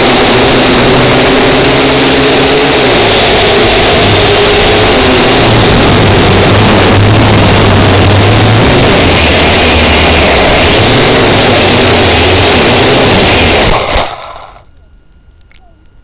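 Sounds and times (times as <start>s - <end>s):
drone propellers buzzing: 0.0s - 14.7s.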